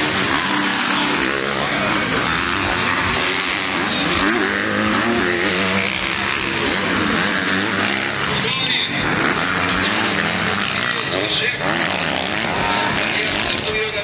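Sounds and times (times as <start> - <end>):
motocross bikes racing past: 0.0 - 14.0.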